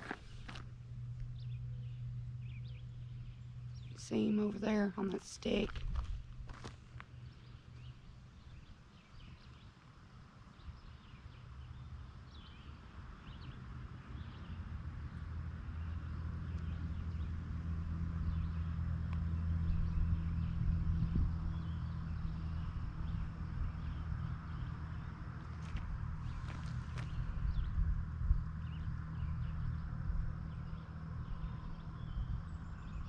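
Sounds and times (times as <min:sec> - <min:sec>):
distant engine hum: 0:00.0 - 0:33.0.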